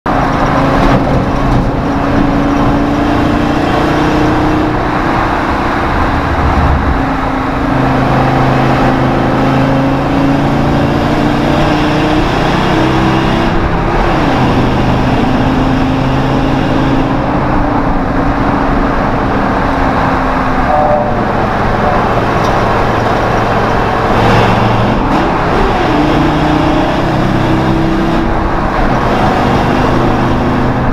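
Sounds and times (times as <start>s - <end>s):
road and wind noise: 0.0s - 30.9s
truck engine revving: 0.1s - 30.9s.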